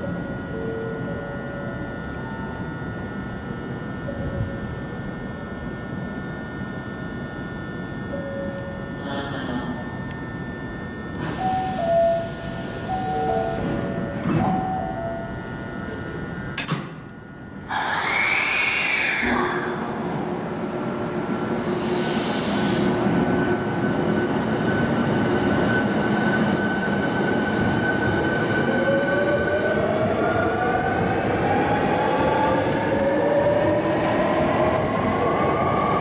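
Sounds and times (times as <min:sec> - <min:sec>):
train equipment high whine: 0:00.0 - 0:36.0.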